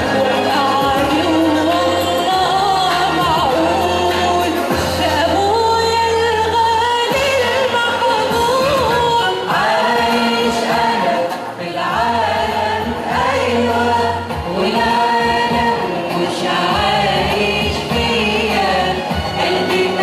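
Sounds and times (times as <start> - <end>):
choir singing a hymn: 0.0 - 5.4, 7.0 - 20.0.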